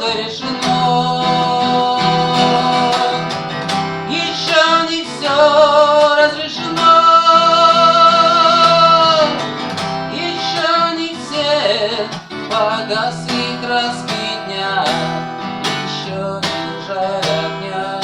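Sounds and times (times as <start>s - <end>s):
acoustic guitar strumming: 0.0s - 18.0s
man singing long held notes: 0.0s - 18.0s.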